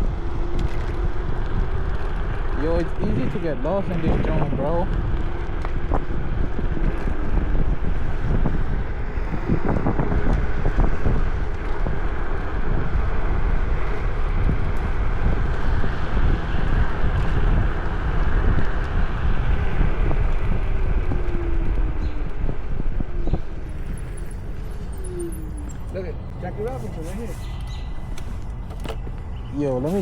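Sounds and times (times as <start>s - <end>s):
tyre and road rumble: 0.0s - 30.0s
wind buffeting microphone: 0.0s - 30.0s.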